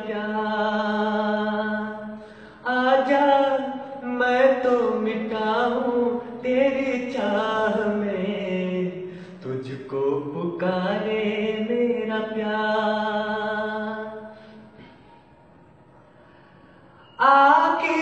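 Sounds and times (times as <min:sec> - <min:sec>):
young man singing unaccompanied: 0:00.0 - 0:14.4, 0:17.2 - 0:18.0.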